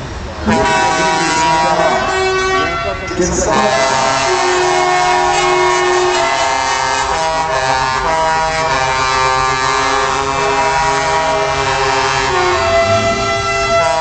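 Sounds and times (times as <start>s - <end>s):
truck air horns: 0.4s - 14.0s.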